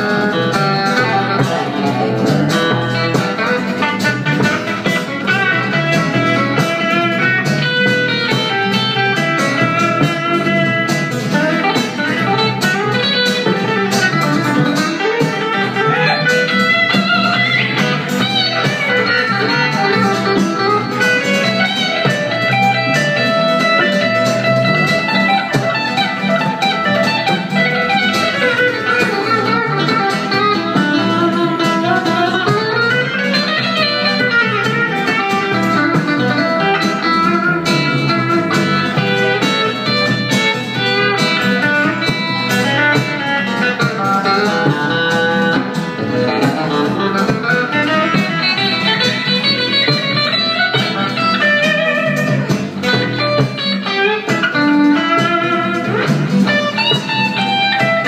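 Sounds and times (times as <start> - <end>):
acoustic guitar rhythm: 0.0 - 58.0
electric guitar lead lines: 0.0 - 58.0
stand-up bass: 0.0 - 58.0.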